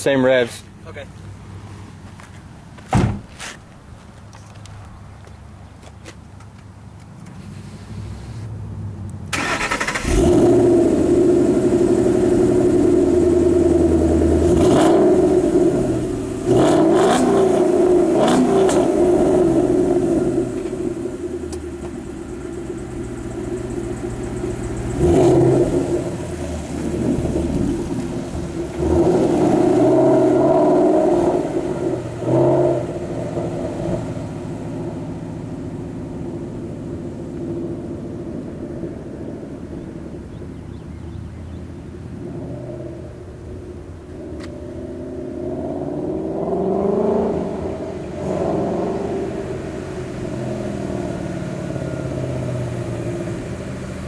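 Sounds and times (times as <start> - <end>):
car engine starting and revving: 7.4 - 54.0.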